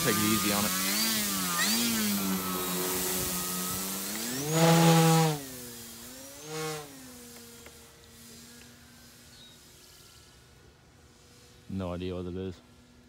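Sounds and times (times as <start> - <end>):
model plane motor whining: 0.0 - 11.7.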